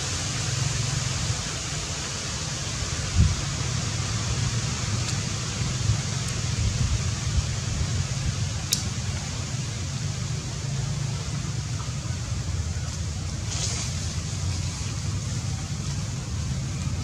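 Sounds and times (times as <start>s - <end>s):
low rumble with hiss: 0.0s - 17.0s.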